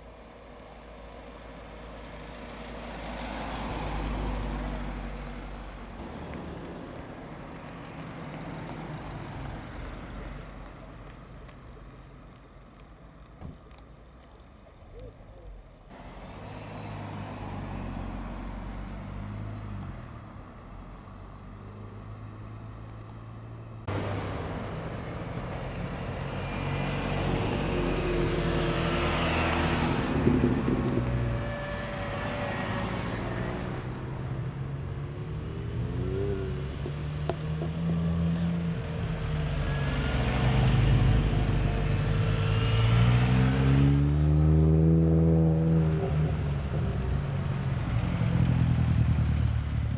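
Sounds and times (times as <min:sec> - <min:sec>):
car engines passing slowly: 0:00.0 - 0:49.9.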